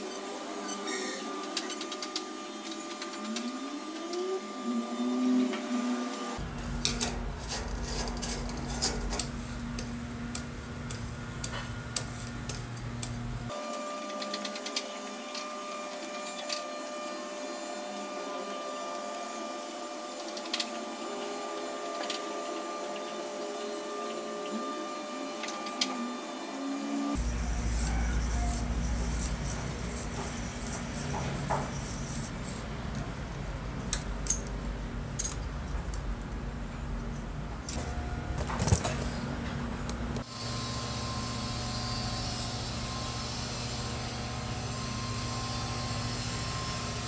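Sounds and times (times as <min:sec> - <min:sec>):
steady background hum: 0:00.0 - 0:47.0.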